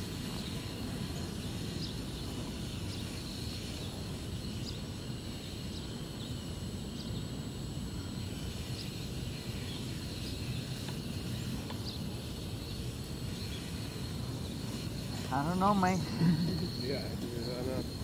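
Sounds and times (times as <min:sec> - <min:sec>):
faint bird chirp: 0:00.0 - 0:18.0.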